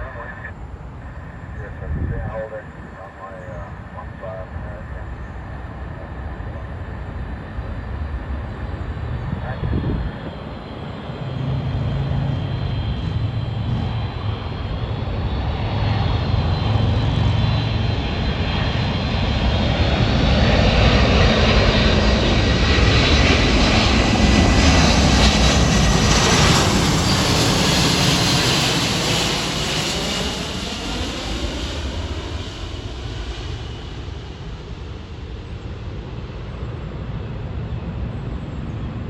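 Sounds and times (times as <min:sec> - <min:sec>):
jet aircraft roar and whine: 0:00.0 - 0:39.0.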